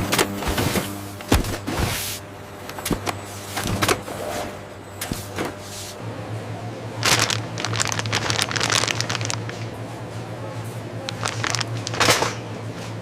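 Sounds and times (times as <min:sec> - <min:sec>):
factory machinery hum: 0:00.0 - 0:13.0.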